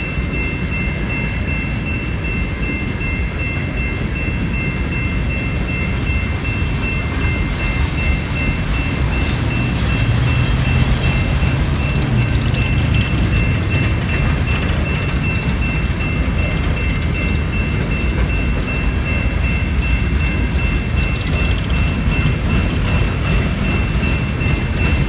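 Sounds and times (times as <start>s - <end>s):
crossing bell ringing: 0.0s - 25.0s
train wheels clattering on rails: 0.0s - 25.0s.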